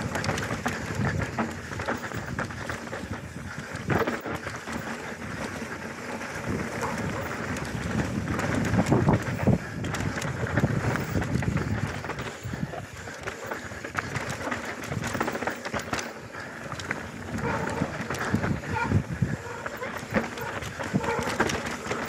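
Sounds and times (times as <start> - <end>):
bike tyres rumbling over dirt: 0.0 - 22.0
chain and frame rattling: 0.0 - 22.0.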